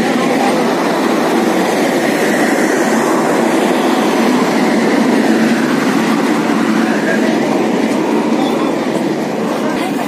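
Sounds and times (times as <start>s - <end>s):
steel train wheels on rails: 0.0s - 10.0s.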